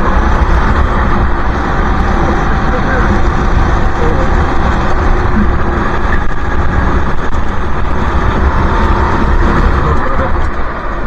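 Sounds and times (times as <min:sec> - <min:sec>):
go-kart engine rumbling: 0:00.0 - 0:11.0
other karts nearby: 0:00.0 - 0:11.0.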